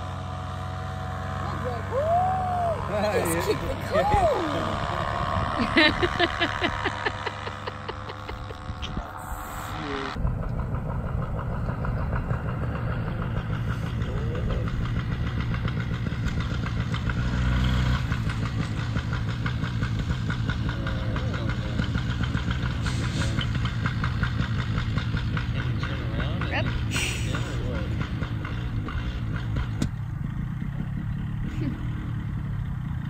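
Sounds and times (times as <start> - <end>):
small two-stroke engine running: 0.0 - 33.0.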